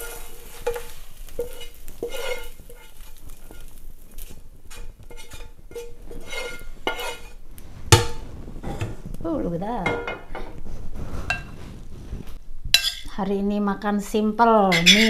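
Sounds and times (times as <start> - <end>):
spatula scraping a frying pan: 0.0 - 9.2, 9.8 - 13.1, 14.6 - 15.0.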